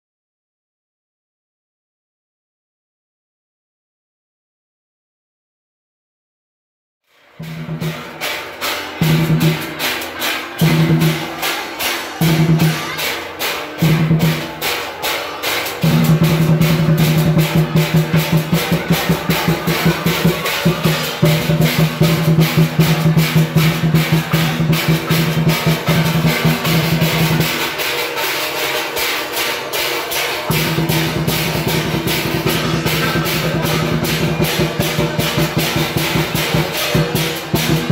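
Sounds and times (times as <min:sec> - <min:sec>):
fast drum beat: 0:07.4 - 0:37.9.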